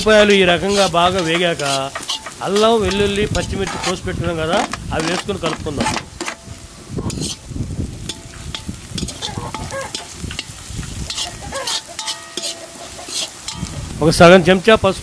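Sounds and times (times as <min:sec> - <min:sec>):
metal spoon scraping wok: 0:00.0 - 0:13.9
vegetables sizzling in oil: 0:00.0 - 0:15.0.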